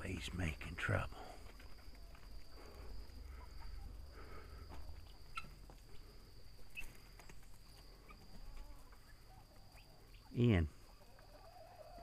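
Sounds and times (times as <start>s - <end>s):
high insect drone: 0.0s - 10.9s
faint chirps: 0.0s - 12.0s.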